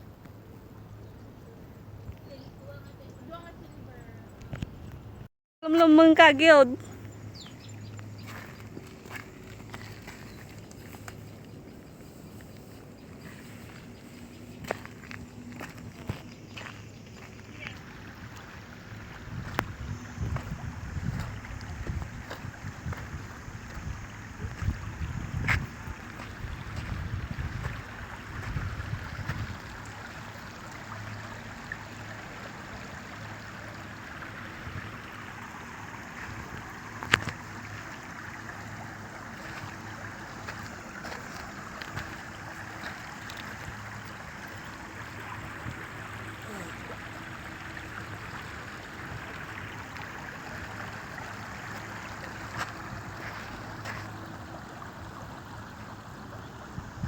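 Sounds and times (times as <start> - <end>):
water washing along shore: 5.7 - 57.0.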